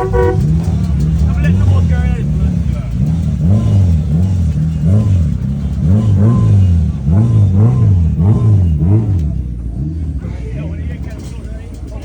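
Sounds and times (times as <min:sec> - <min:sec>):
car engine revving in blips: 0:00.0 - 0:12.0.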